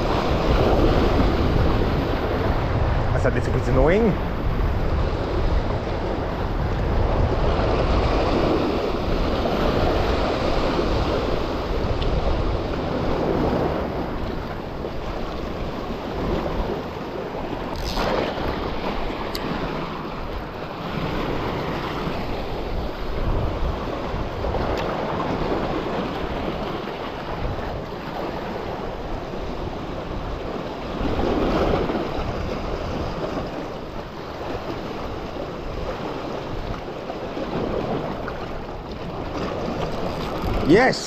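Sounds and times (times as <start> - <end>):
waves washing against rocks: 0.0 - 41.0
wind buffeting microphone: 0.0 - 41.0.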